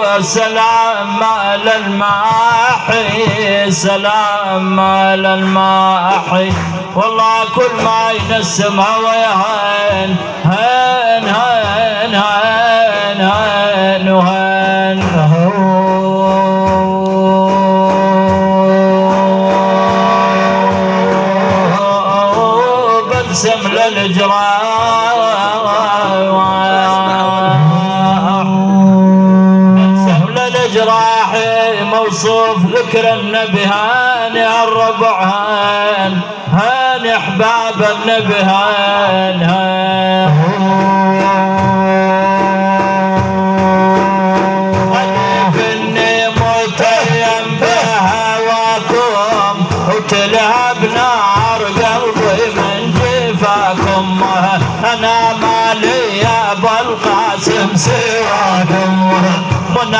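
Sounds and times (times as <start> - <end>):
man singing: 0.0 - 59.9.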